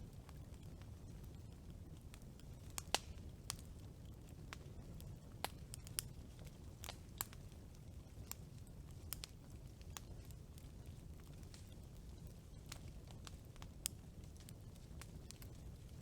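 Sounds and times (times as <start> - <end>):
campfire crackles and pops: 0.0 - 16.0
campfire rumbling: 0.0 - 16.0.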